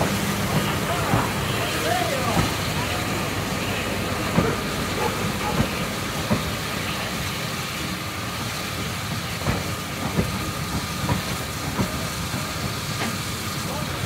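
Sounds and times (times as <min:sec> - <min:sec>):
train coaches rumbling: 0:00.0 - 0:14.0
wheels clunking over rail joints: 0:00.0 - 0:14.0.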